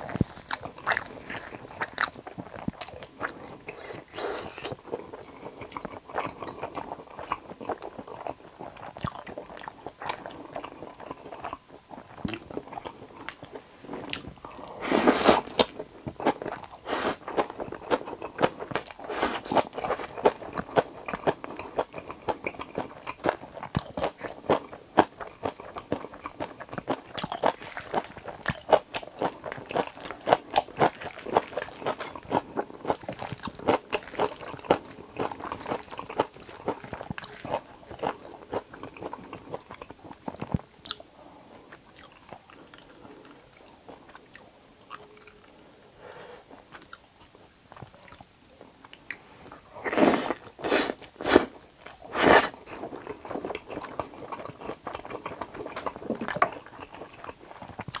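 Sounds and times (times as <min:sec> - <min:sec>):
chewing and wet mouth sounds: 0:00.0 - 0:58.0.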